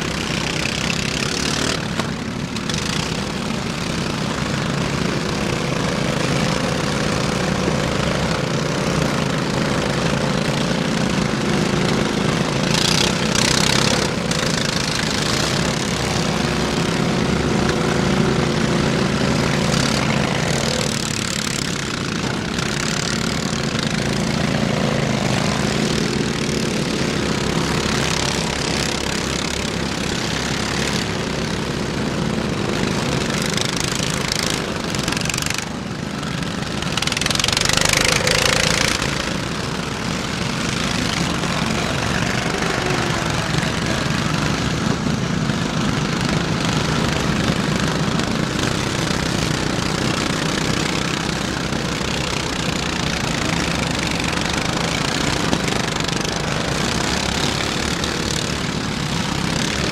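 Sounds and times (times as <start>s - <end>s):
lawn mower engines revving: 0.0s - 59.9s.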